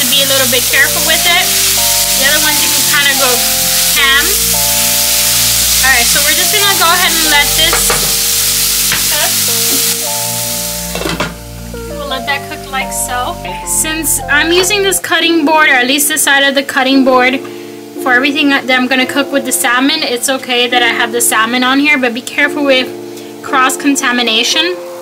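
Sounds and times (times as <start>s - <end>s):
vegetables sizzling in a frying pan: 0.0s - 24.6s.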